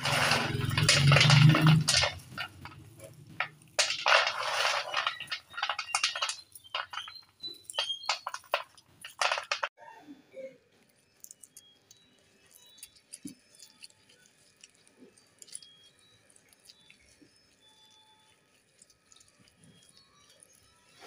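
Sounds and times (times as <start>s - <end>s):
peanuts rattling on metal plate: 0.0s - 9.7s, 12.6s - 21.0s.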